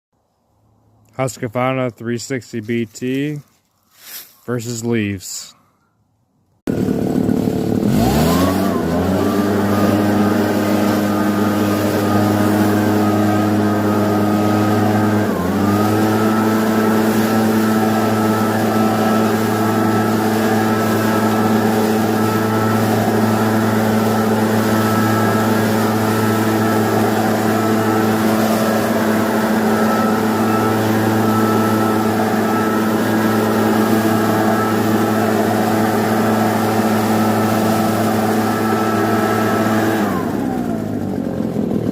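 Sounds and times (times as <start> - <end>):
high fan whine: 6.7 - 41.9
leaf blower engine revving: 6.7 - 41.9.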